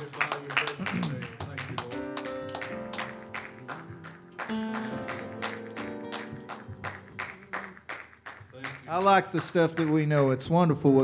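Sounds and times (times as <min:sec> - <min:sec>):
soft instrumental worship music: 0:00.0 - 0:11.0.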